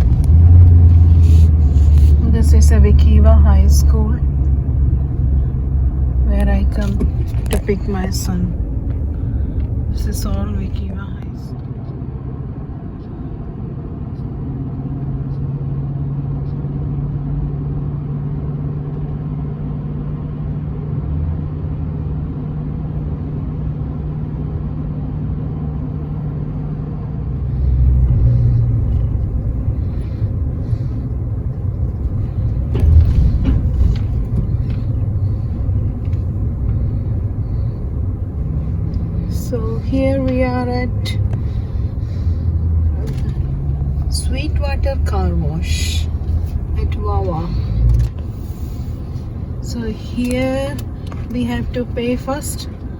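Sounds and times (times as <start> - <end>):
truck engine and road rumble: 0.0 - 52.9.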